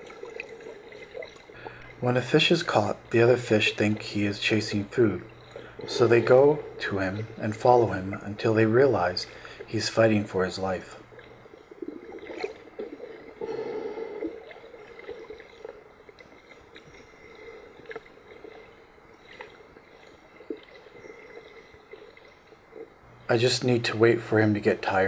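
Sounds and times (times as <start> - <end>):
muffled underwater water sloshing: 0.0 - 25.0.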